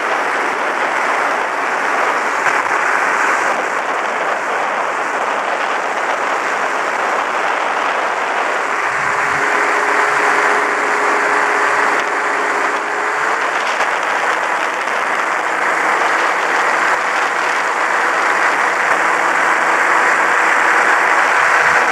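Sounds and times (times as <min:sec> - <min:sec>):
aircraft engine drone: 0:00.0 - 0:21.9
rushing airflow: 0:00.0 - 0:21.9.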